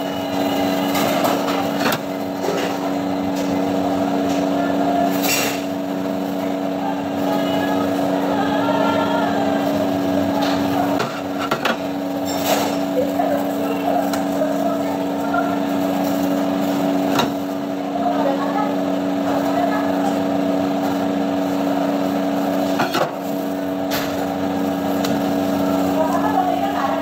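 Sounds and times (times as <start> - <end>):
kitchen equipment hum: 0.0 - 27.0.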